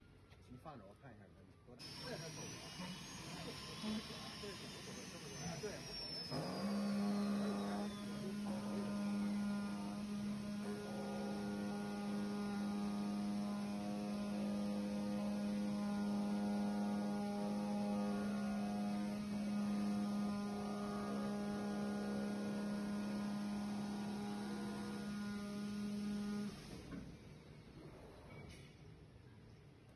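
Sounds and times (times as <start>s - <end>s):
cutting machine electric hum: 1.8s - 27.5s.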